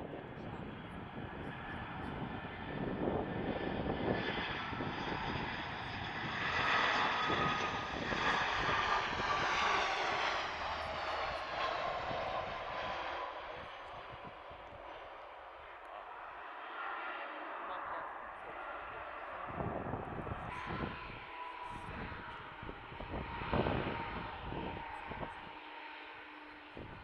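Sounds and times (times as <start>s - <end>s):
jet engines passing by: 0.0s - 27.0s.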